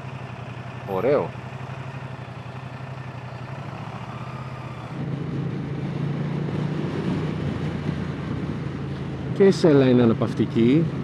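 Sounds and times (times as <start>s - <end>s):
motorcycle engine idling and pulling away: 0.0s - 9.3s.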